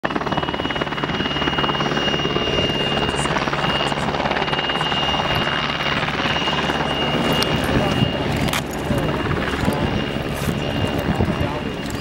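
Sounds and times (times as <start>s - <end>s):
helicopter rotor chop: 0.0s - 12.0s
high turbine whine: 0.0s - 12.0s.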